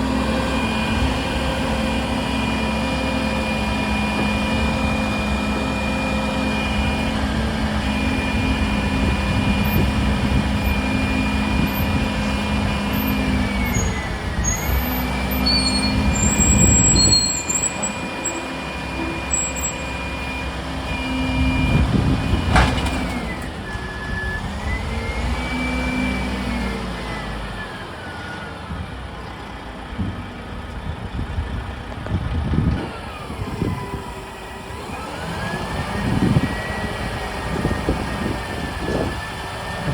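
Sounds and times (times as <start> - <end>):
diesel garbage truck engine revving: 0.0 - 39.9.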